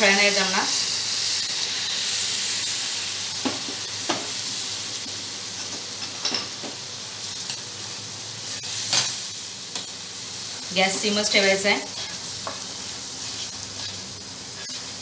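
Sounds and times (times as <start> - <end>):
ghee and flour sizzling: 0.0 - 15.0.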